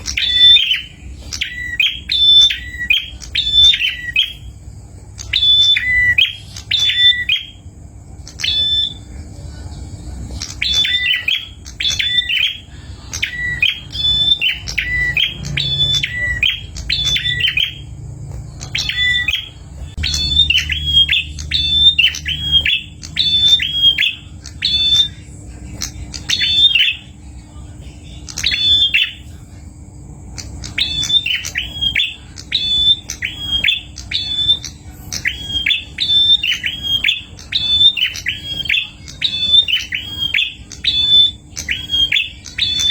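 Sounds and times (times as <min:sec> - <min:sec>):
bird chirping: 0:00.0 - 0:42.9
faint steady hum: 0:00.0 - 0:42.9.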